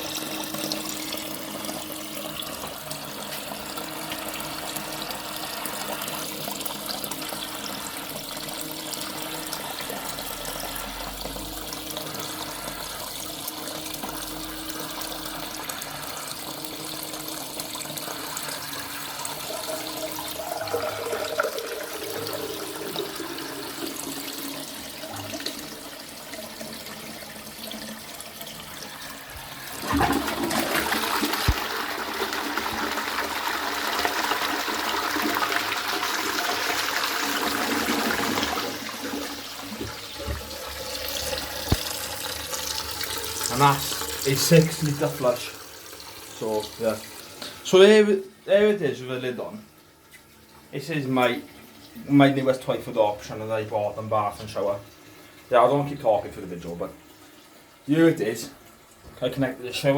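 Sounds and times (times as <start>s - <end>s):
toilet cistern filling hiss: 0.0s - 59.9s
toilet flush water rushing: 0.0s - 59.9s.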